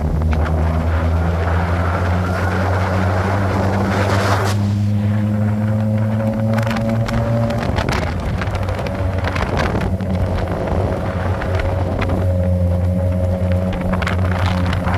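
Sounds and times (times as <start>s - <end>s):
motorcycle engine cruising: 0.0s - 14.9s
wind buffeting microphone: 0.0s - 14.9s.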